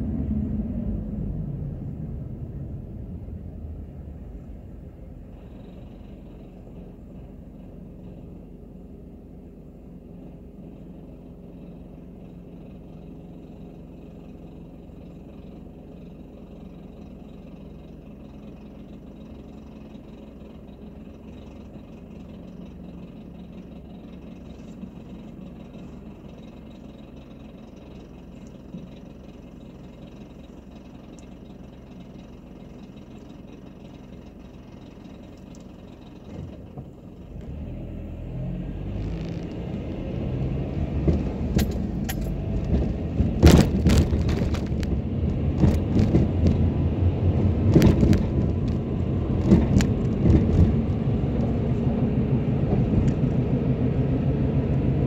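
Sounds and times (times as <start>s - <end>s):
car accelerating with road noise: 0.0s - 55.0s
car engine idling: 0.0s - 55.0s.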